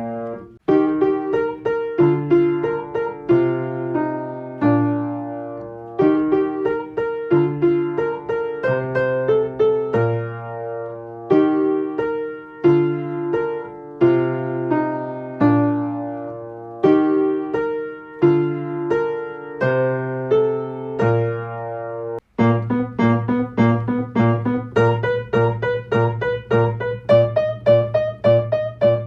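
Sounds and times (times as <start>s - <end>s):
solo piano playing: 0.0s - 29.0s.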